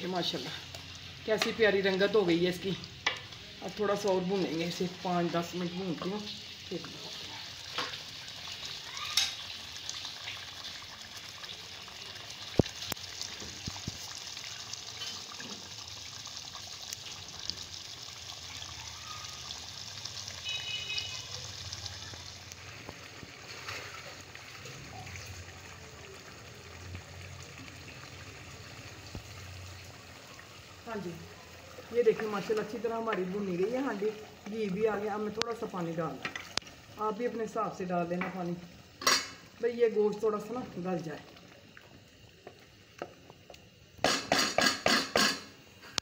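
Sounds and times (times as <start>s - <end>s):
food sizzling in oil: 0.0s - 46.0s.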